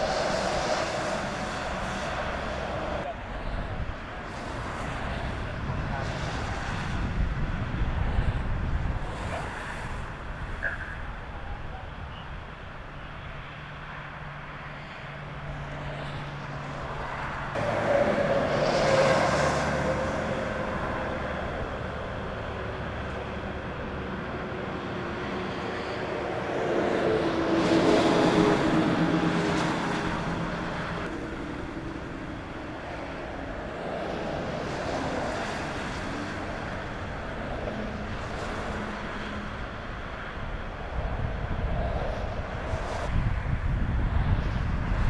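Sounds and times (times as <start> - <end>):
freeway traffic passing: 0.0 - 45.0.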